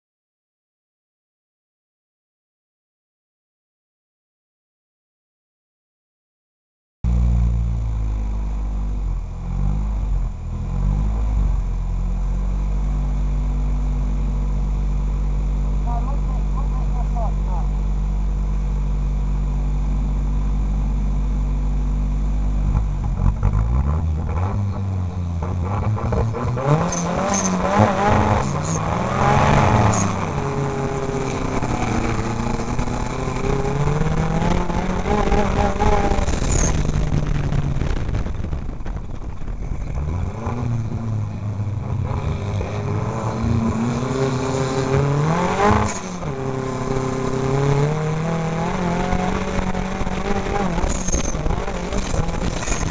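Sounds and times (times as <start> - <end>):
truck engine idling and revving: 7.0 - 52.9.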